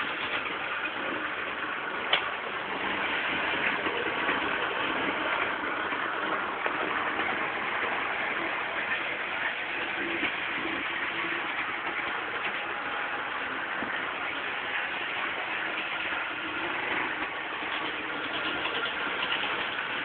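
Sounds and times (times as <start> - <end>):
model train rushing hum: 0.0 - 20.0.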